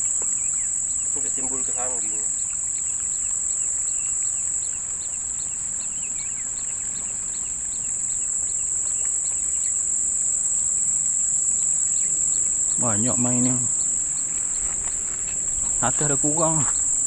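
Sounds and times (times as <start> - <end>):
high-pitched insect drone: 0.0 - 17.0
insect chirping: 0.0 - 17.0.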